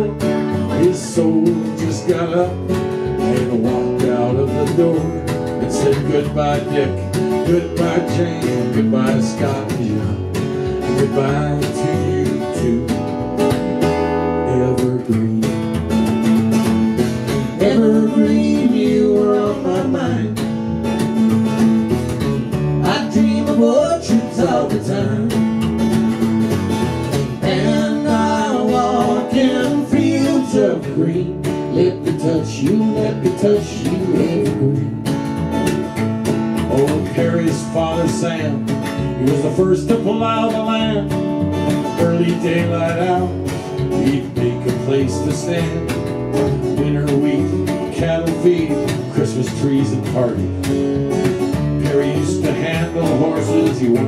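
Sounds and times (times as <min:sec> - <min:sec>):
acoustic guitar strumming: 0:00.0 - 0:54.0
double bass: 0:00.0 - 0:54.0.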